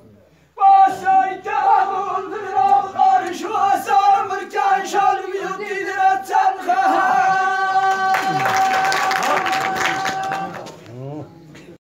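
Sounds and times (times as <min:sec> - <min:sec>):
men chanting: 0:00.6 - 0:10.7.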